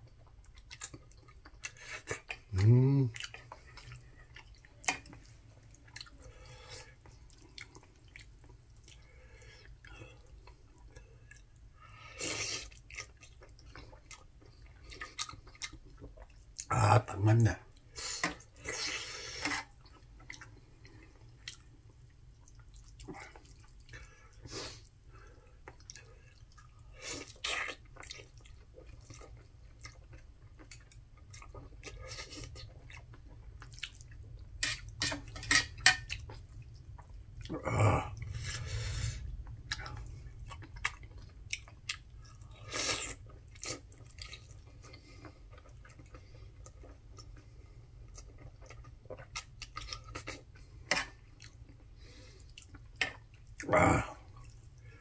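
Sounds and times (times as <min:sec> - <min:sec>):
man chewing noodles: 0:00.0 - 0:16.7, 0:17.6 - 0:55.0.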